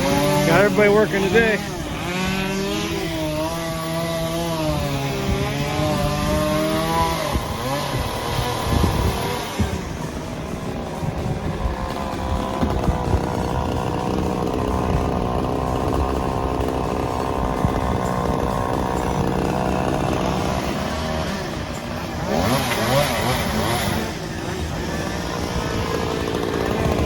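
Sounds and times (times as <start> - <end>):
chainsaw running at high revs: 0.0 - 27.0.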